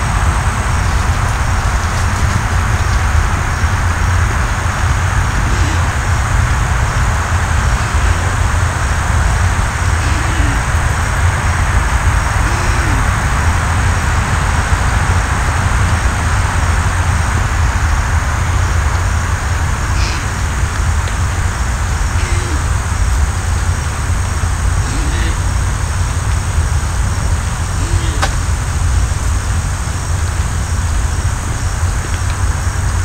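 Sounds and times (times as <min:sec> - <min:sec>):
deep low rumble: 0:00.0 - 0:33.0
steady rushing noise: 0:00.0 - 0:33.0.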